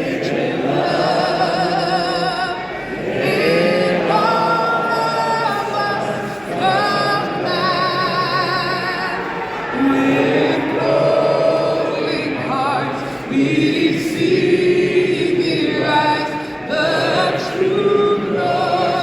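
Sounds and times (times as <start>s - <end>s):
many voices singing along: 0.0s - 19.0s
woman singing anthem: 0.0s - 19.0s.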